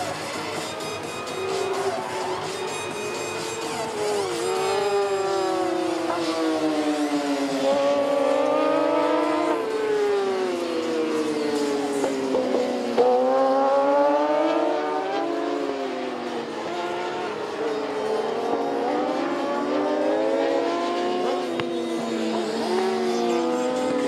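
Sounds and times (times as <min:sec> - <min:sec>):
racing motorcycle engines revving: 0:00.0 - 0:24.0.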